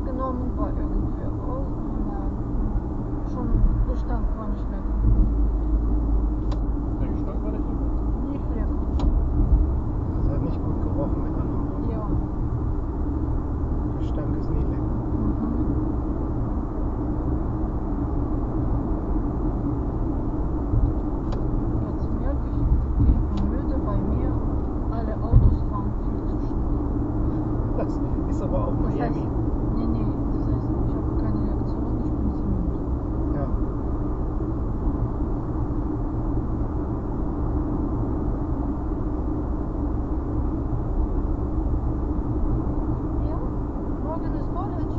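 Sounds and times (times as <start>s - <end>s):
car road and engine noise: 0.0s - 44.9s
faint steady hum: 0.0s - 44.9s.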